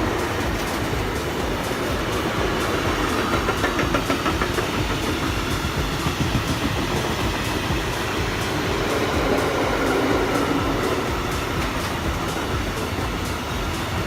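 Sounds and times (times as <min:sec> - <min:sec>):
wheel clicks over rail joints: 0:00.0 - 0:13.9
train rumbling past: 0:00.0 - 0:14.0.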